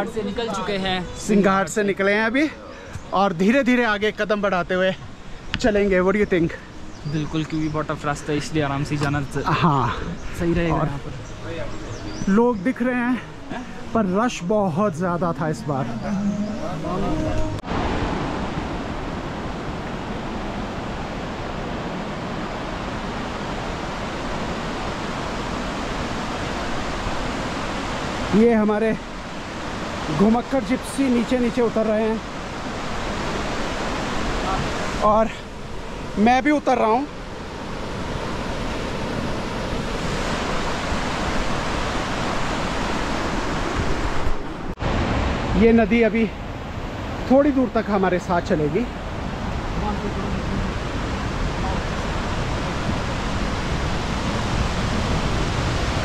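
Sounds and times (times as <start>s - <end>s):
river white water rushing: 8.0s - 56.0s.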